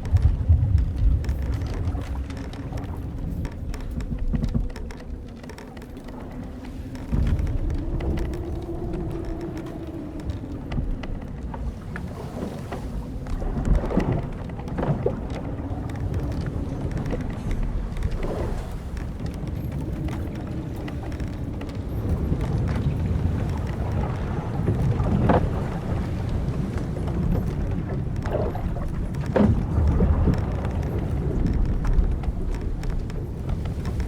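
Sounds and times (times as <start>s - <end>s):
sea and wind wash: 0.0s - 34.0s
wooden boat creaking: 0.0s - 34.0s.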